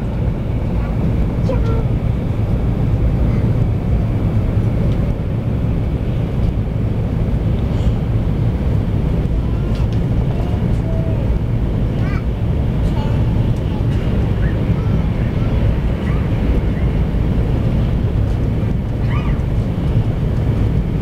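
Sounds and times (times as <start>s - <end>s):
train rumbling at speed: 0.0s - 21.0s.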